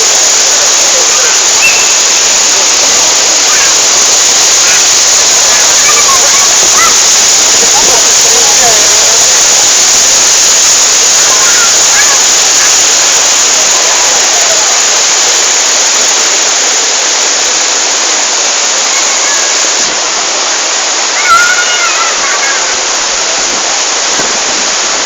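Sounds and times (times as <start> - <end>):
faint voices: 0.0 - 25.0
waterfall rushing: 0.0 - 25.0.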